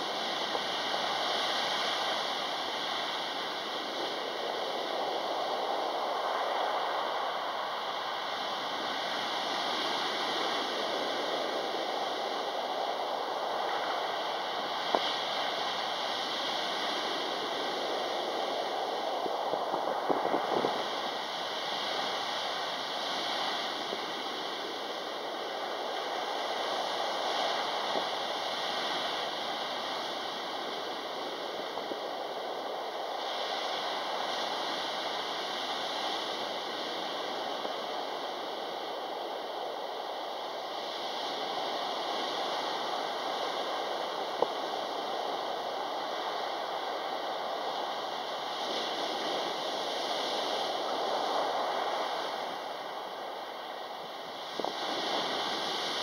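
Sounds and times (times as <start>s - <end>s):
heavy surf on pebble beach: 0.0s - 56.0s.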